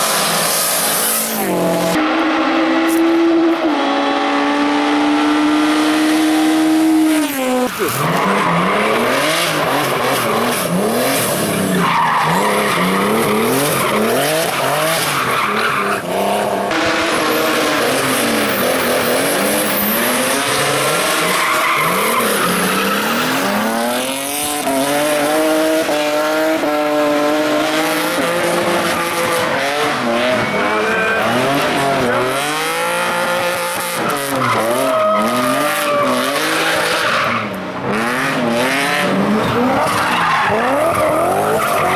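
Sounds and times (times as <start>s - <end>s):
race car engines at full throttle: 0.0s - 41.9s.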